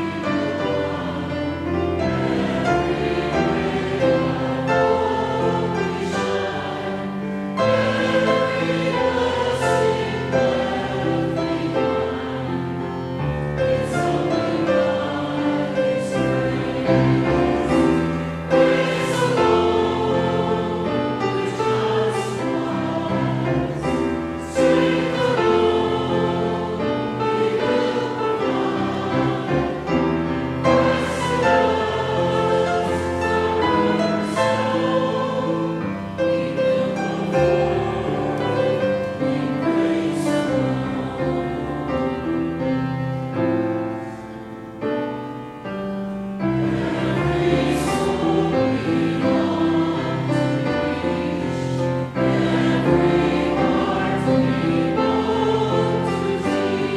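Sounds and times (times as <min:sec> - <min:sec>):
church choir singing a hymn: 0:00.0 - 0:56.9.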